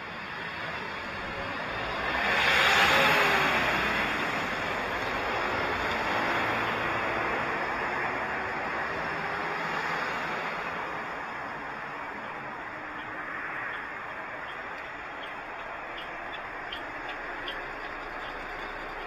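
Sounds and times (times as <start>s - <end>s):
road traffic: 0.0s - 19.0s
truck passing close: 0.0s - 19.0s.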